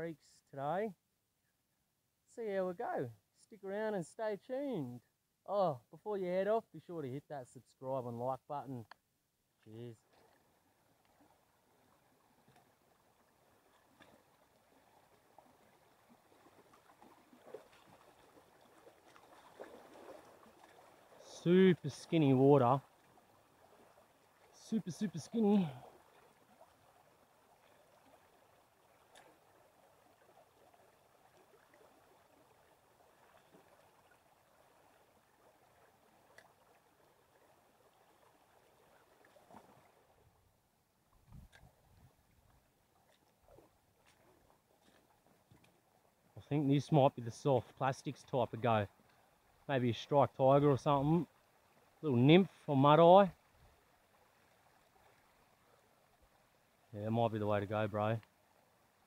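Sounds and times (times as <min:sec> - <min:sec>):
creek water running: 0:02.3 - 0:59.0.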